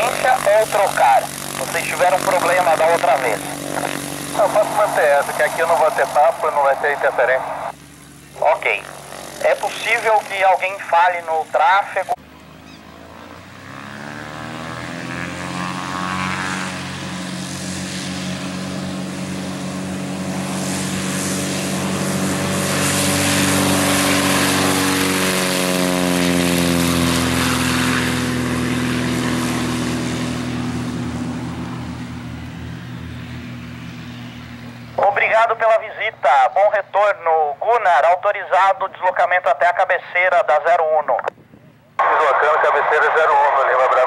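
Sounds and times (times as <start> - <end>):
propeller aircraft taking off: 0.0 - 44.0.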